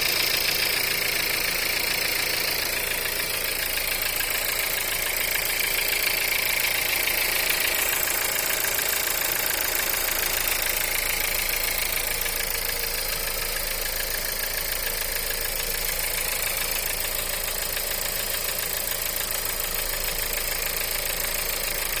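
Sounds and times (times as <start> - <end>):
car engine idling with knock: 0.0 - 22.0.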